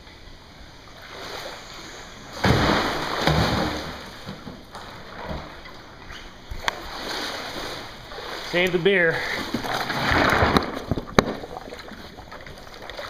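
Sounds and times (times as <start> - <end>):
floodwater splashing: 0.9 - 13.0.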